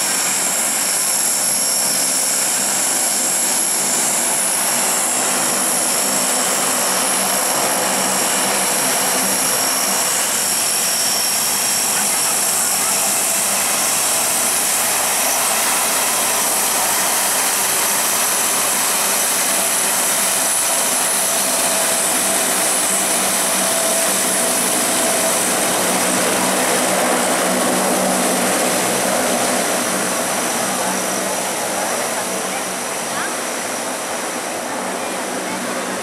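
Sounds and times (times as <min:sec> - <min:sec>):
high turbine whine: 0:00.0 - 0:36.0
turboprop propeller drone: 0:00.0 - 0:36.0.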